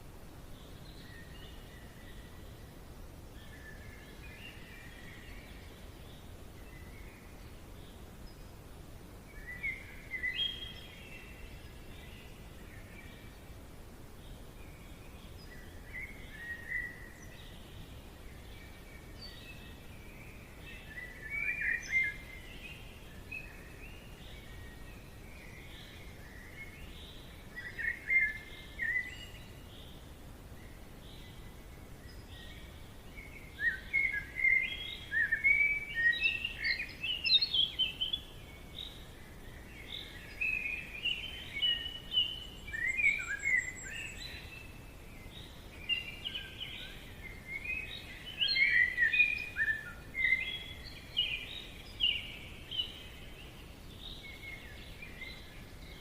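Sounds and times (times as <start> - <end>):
faint background hiss: 0.0 - 56.0
birds singing and chirping: 9.3 - 13.5, 14.2 - 56.0.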